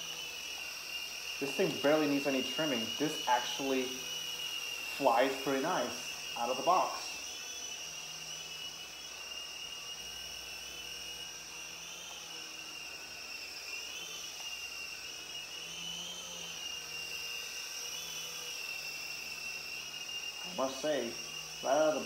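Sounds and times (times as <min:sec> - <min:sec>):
toy helicopter motor whine: 0:00.0 - 0:22.0.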